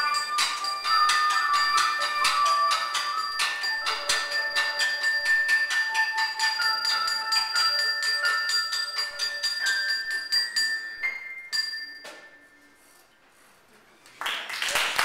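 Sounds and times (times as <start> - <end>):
bell-like percussion taps: 0.0 - 12.4.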